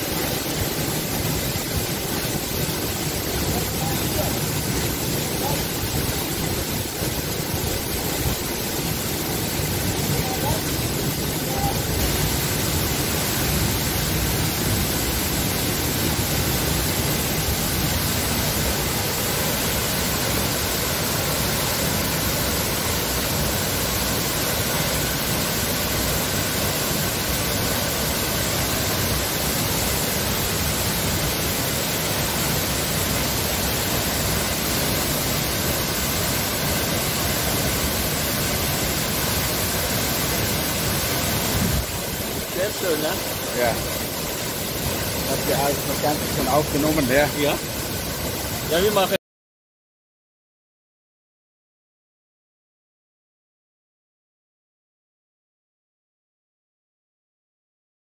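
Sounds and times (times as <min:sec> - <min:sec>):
waterfall rushing: 0:00.0 - 0:49.2.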